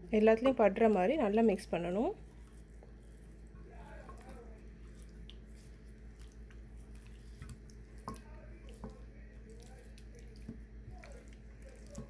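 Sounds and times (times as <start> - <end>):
low steady hum: 0.0 - 12.0
hands rubbing wet chicken: 2.2 - 12.0.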